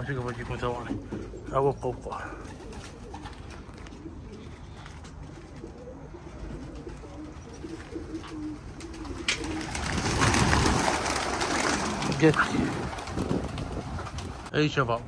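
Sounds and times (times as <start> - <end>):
pigeons cooing: 0.0 - 14.5.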